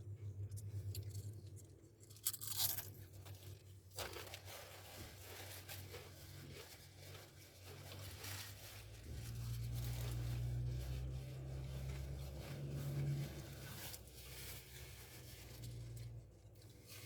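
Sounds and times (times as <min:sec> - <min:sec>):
crunching and chewing food: 0:00.0 - 0:17.0
low steady hum: 0:00.0 - 0:17.0.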